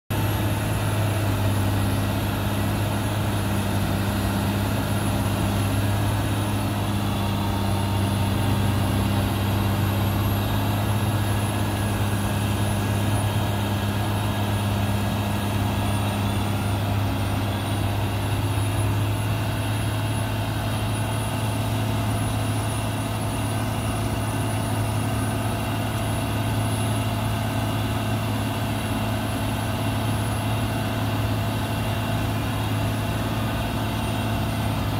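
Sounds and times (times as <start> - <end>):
diesel engine droning under load: 0.0 - 34.9.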